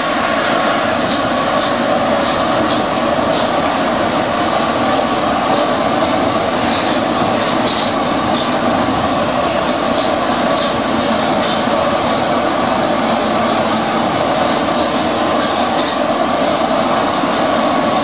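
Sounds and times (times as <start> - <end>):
train running through tunnel: 0.0 - 18.0.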